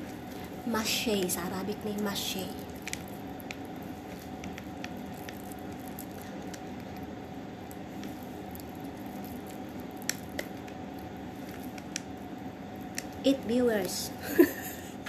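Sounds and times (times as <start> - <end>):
wet rice squishing and clicking: 0.0 - 14.2.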